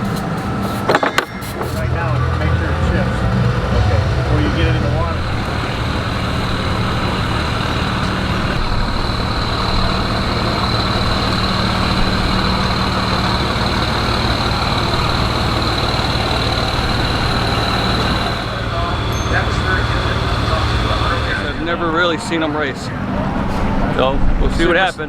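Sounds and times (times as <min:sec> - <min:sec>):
engine idling with high whine: 0:00.0 - 0:25.0.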